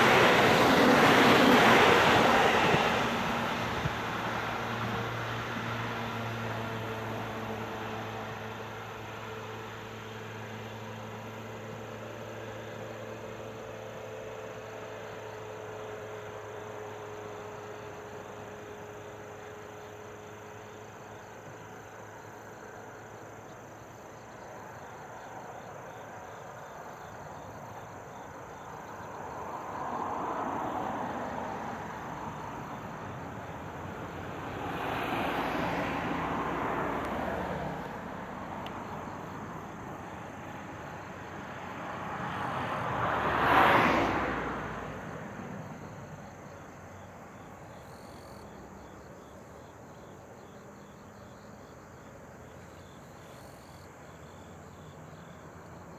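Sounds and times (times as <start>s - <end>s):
faint insect chirping: 0.0s - 55.9s
vehicles passing by: 0.0s - 55.9s.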